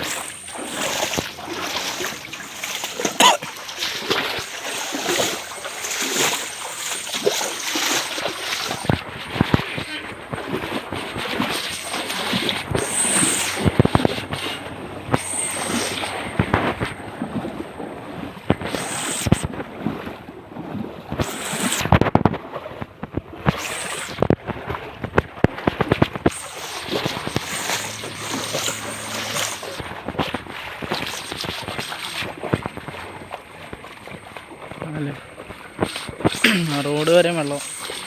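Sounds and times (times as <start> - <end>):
person wading through water: 0.0 - 38.0.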